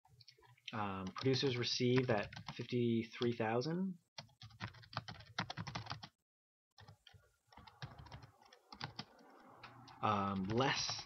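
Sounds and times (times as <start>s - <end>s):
computer keyboard typing: 0.2s - 3.4s, 4.2s - 6.2s, 6.8s - 11.0s.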